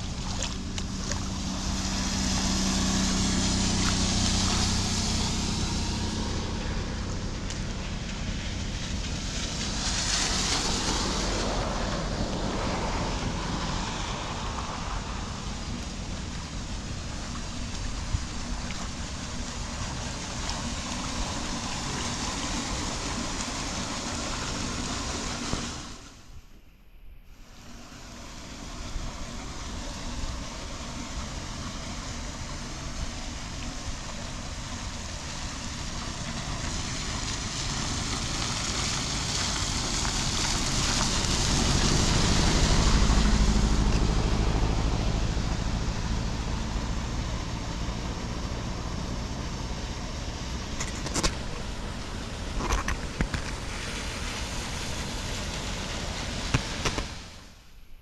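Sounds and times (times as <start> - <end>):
steady rain: 0.0 - 26.2, 27.6 - 57.6
tyres hissing on wet road: 0.0 - 26.3, 27.4 - 57.6
low engine rumble: 0.0 - 58.0.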